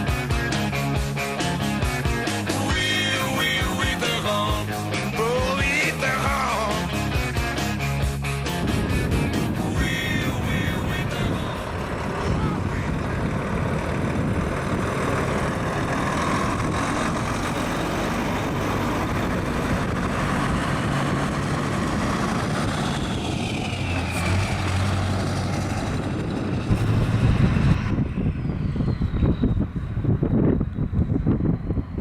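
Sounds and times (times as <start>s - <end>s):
diesel truck engines rumbling: 0.0s - 32.0s.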